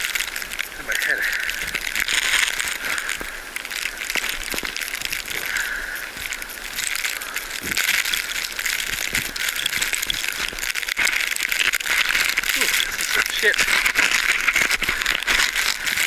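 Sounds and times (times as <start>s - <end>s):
camera case crackling and rattling: 0.0s - 16.0s.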